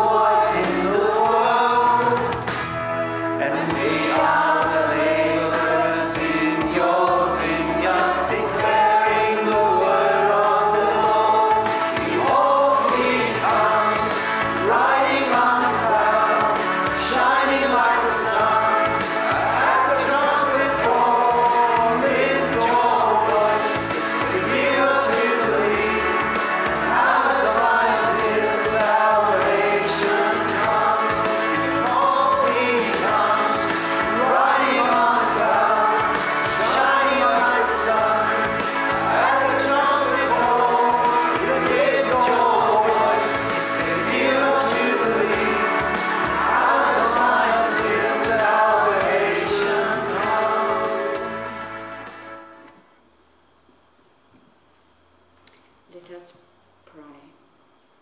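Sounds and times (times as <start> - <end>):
choir singing a hymn: 0.0 - 52.5
instrumental accompaniment: 0.0 - 52.9.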